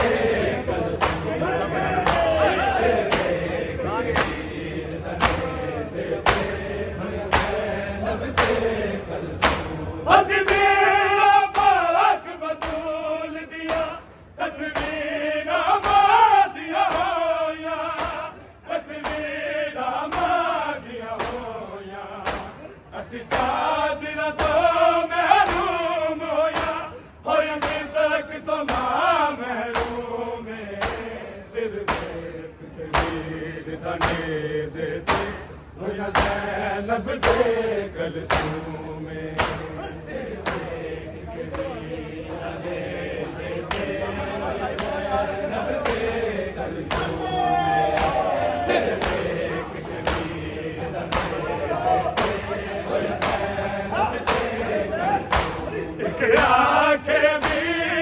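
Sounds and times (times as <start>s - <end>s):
men chanting a lament: 0.0s - 58.0s.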